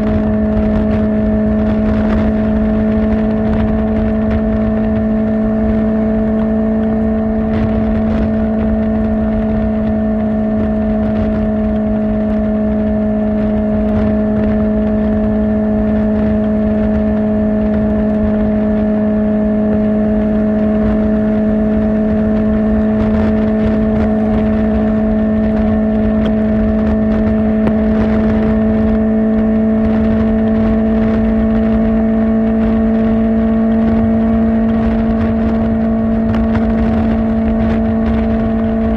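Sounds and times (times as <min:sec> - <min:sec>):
motorcycle engine cruising: 0:00.0 - 0:38.9
wind rushing: 0:00.0 - 0:38.9.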